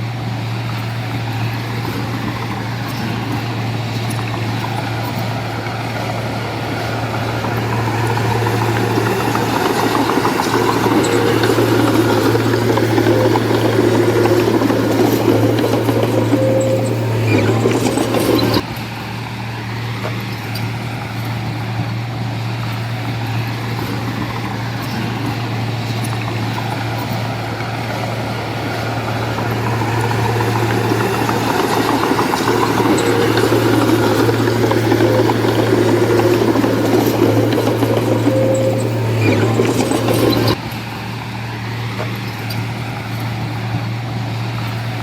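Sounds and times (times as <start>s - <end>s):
diesel engine of heavy machinery: 0.0s - 45.0s.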